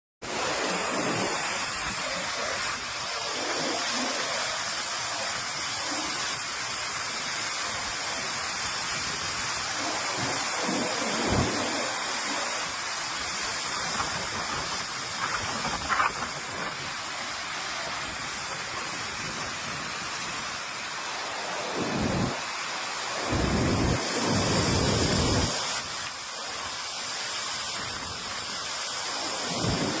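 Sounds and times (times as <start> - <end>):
heavy rain hissing: 0.2 - 30.0.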